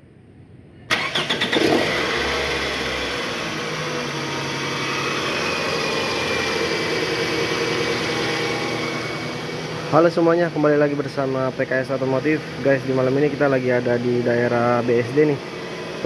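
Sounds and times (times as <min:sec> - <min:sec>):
car engine starting and idling: 0:00.9 - 0:16.0.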